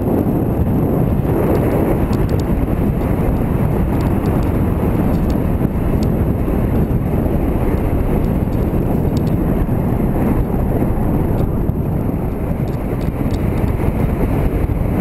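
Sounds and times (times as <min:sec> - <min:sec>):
motorcycle engine rumble: 0:00.0 - 0:15.0
wind noise on microphone: 0:00.0 - 0:15.0.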